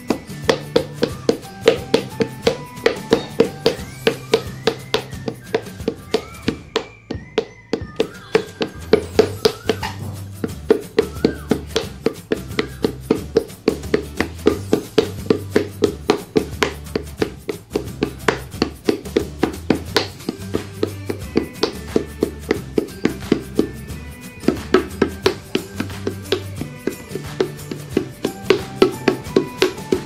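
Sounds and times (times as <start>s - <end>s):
background music with bass line: 0.0s - 30.0s
paddle slapping clay pot: 0.0s - 30.0s.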